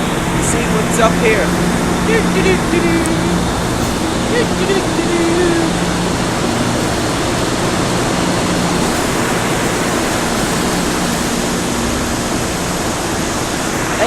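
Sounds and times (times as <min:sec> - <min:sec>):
mill machinery rushing din: 0:00.0 - 0:14.0.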